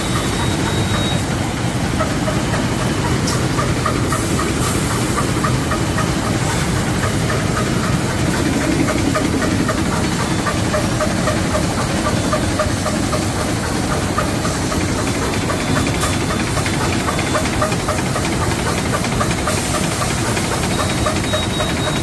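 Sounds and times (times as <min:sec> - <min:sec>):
bag making machine drone: 0:00.0 - 0:22.0
fast mechanical ticking: 0:00.0 - 0:22.0.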